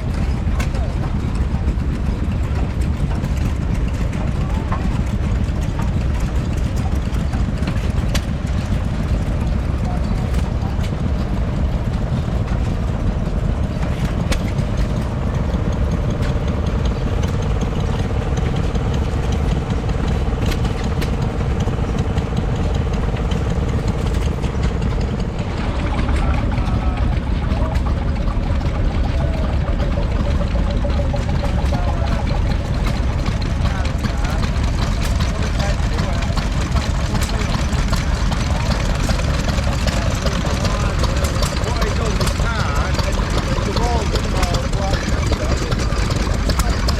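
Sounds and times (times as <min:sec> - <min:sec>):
stationary engine chugging: 0:00.0 - 0:46.9.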